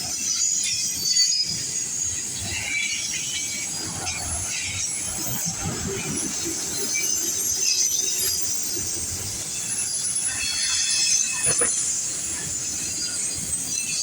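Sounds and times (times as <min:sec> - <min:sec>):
steel wheels squealing: 0:00.0 - 0:14.0.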